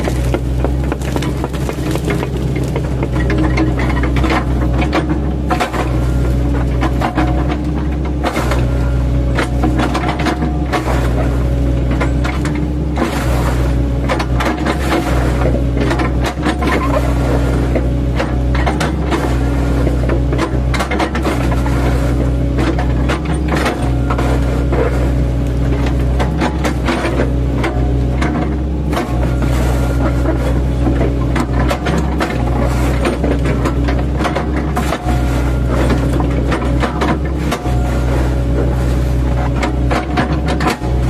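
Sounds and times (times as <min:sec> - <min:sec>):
bucket chopping tree trunks: 0:00.0 - 0:41.0
excavator engine running: 0:00.0 - 0:41.0.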